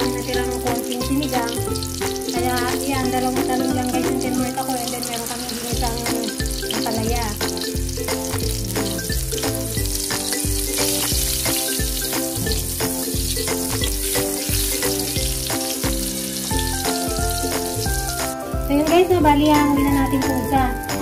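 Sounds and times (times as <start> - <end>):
background music with beat: 0.0 - 4.9, 5.6 - 21.0
omelette sizzling in oil: 0.0 - 18.8.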